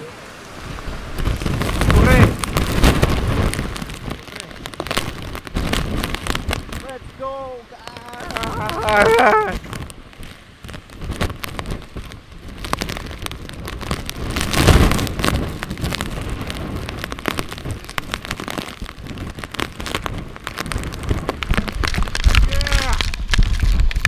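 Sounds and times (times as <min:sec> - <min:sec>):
driving rain: 0:00.0 - 0:24.0
strong wind buffeting microphone: 0:00.0 - 0:24.0.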